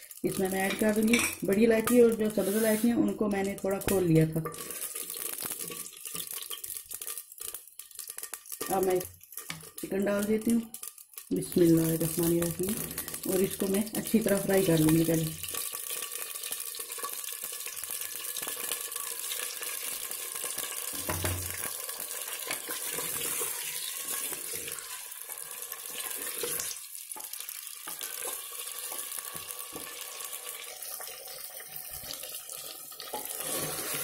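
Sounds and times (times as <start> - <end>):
chicken sizzling in hot oil: 0.0 - 34.0
wooden spoon stirring: 0.4 - 16.2, 20.9 - 34.0.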